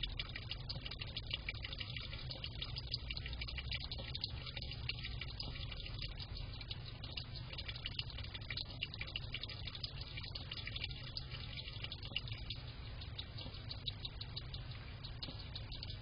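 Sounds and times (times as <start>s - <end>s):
hedgehog lapping water: 0.0s - 16.0s
steady low hum: 0.0s - 16.0s.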